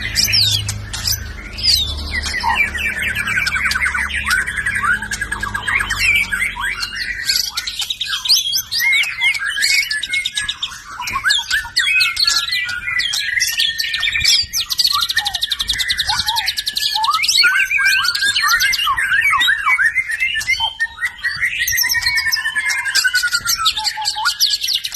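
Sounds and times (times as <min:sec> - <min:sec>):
bird singing whistles and chatter: 0:00.0 - 0:24.9.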